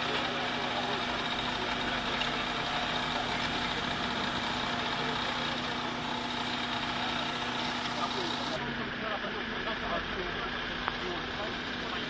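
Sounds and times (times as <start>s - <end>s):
petrol engine running steadily: 0.0s - 12.0s.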